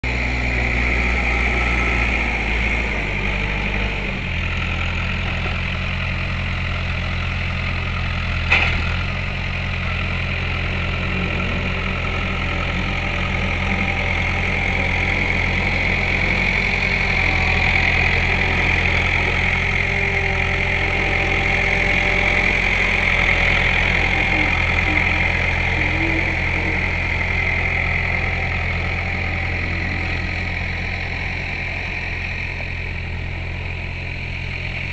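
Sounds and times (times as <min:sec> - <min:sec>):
skid steer loader engine running: 0:00.0 - 0:34.9.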